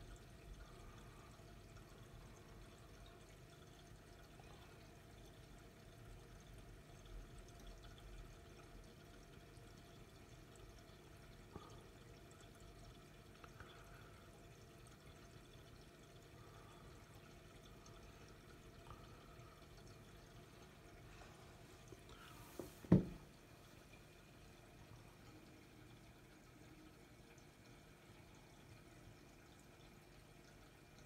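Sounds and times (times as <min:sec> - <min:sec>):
water trickling from filter: 0:00.0 - 0:31.0.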